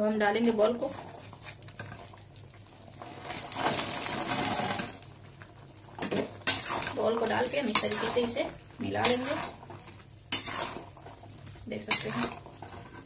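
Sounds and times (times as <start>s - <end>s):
food splashing into boiling gravy: 2.0s - 12.8s.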